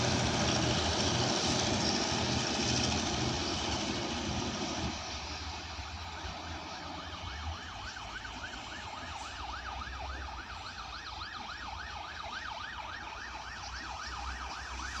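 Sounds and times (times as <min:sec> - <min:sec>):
siren sweeping up and down: 0:00.0 - 0:15.0.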